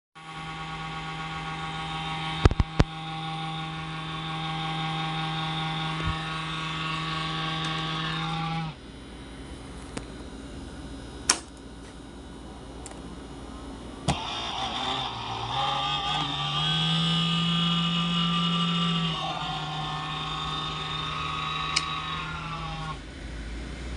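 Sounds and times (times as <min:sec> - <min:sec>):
electric fan vibrating buzz: 0:00.2 - 0:23.9.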